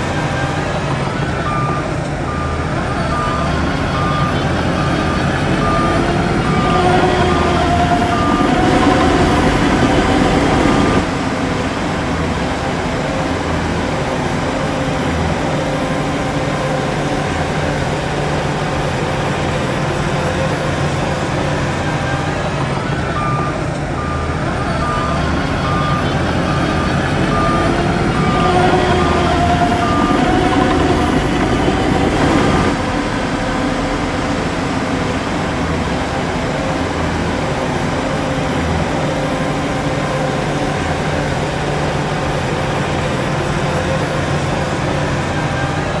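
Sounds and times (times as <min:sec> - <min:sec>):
heavy diesel machinery running: 0:00.0 - 0:46.0
reversing alarm beeping: 0:00.0 - 0:46.0.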